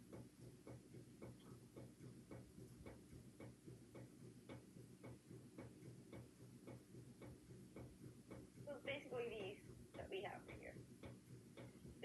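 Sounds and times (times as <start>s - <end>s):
faint regular ticking: 0.0s - 12.0s
low steady hum: 0.0s - 12.0s.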